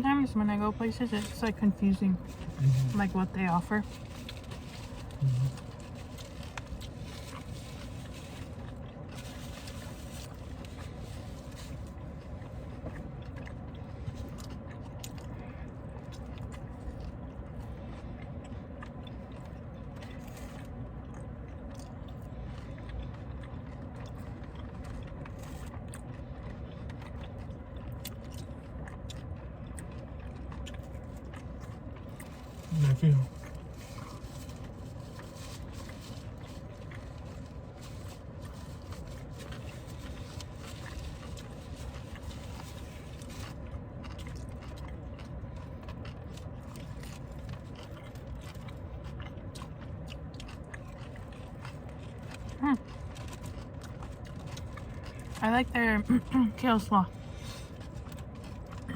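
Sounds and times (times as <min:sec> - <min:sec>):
low background hum: 0:00.0 - 0:58.9
people chewing food: 0:00.0 - 0:58.9.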